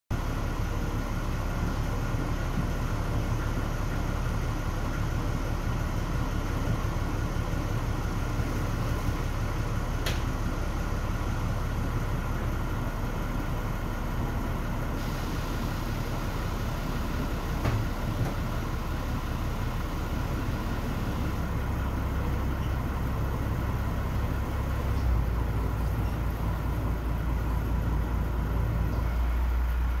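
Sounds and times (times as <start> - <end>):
boat engine humming: 0.1 - 30.0.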